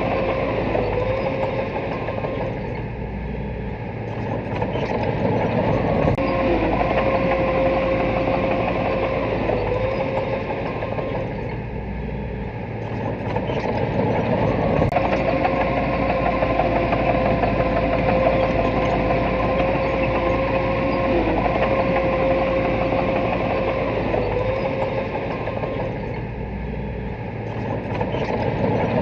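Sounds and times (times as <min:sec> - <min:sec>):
diesel engine running: 0:00.0 - 0:29.0
high even whine: 0:00.0 - 0:29.0.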